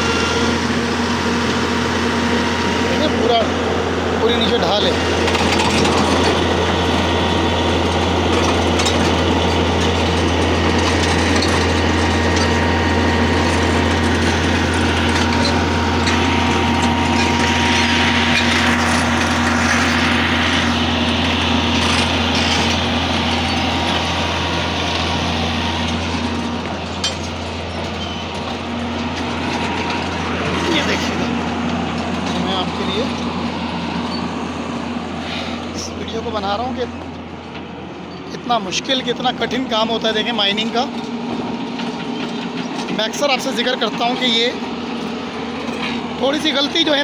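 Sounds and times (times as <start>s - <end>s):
excavator diesel engine humming: 0.0s - 47.0s.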